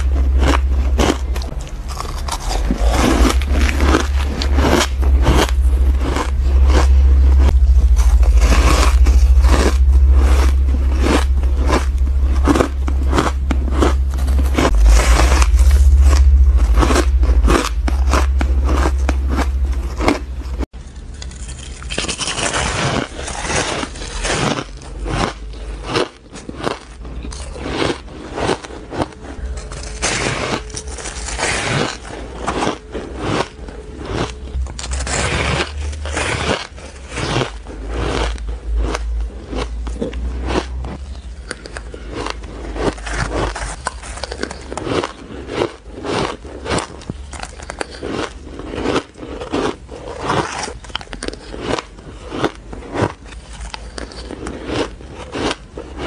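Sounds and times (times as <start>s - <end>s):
person crunching ice: 0.0s - 56.0s
steady low hum: 0.0s - 56.0s.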